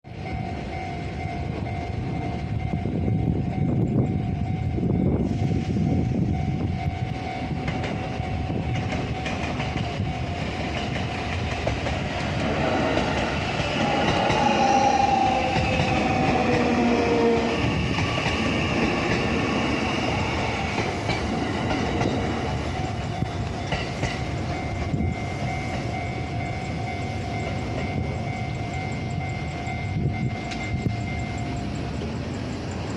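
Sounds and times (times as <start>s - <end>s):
train wheel and rail noise: 0.0s - 32.9s
level crossing warning bell: 0.1s - 32.9s
train motor whine: 0.1s - 32.9s.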